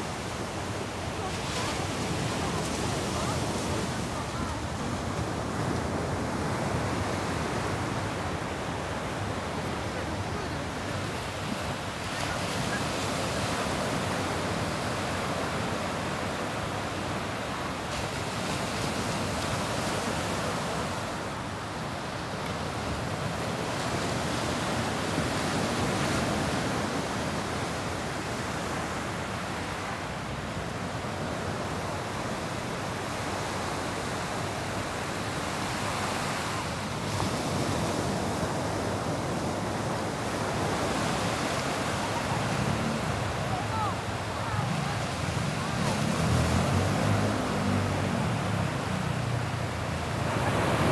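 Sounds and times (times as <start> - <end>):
small waves washing on beach: 0.0 - 50.9.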